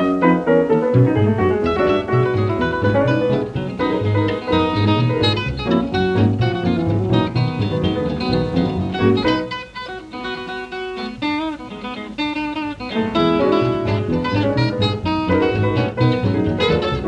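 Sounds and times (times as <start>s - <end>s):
hot jazz band playing: 0.0s - 12.2s, 12.8s - 17.0s
plucked guitar notes: 0.0s - 17.0s.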